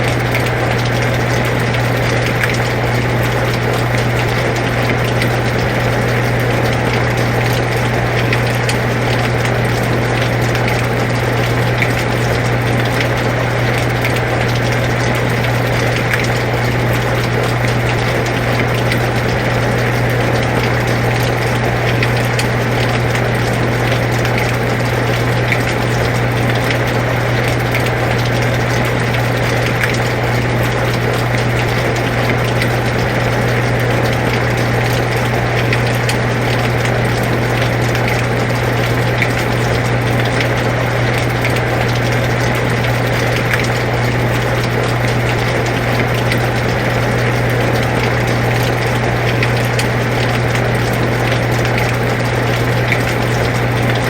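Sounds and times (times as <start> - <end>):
air conditioner humming: 0.0 - 54.0
raindrops ticking: 0.0 - 54.0.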